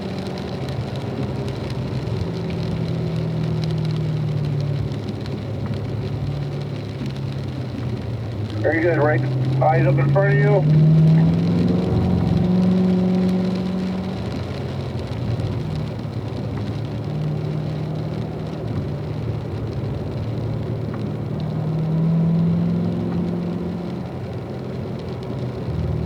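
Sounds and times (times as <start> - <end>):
car engine running: 0.0 - 26.0
rain: 0.0 - 26.0
tyres hissing on wet road: 0.0 - 26.0.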